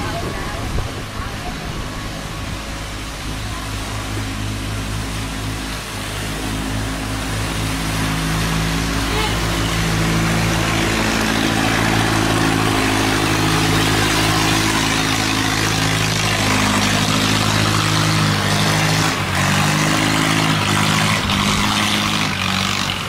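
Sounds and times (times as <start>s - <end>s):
boat engine running hard: 0.0s - 23.0s
rushing churning water: 0.0s - 23.0s.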